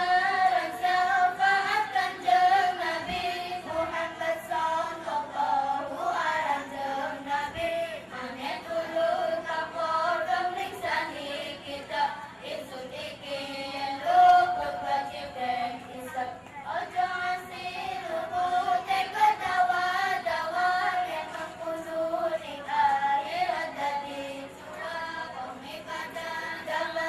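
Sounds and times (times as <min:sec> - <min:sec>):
children singing: 0:00.0 - 0:27.0.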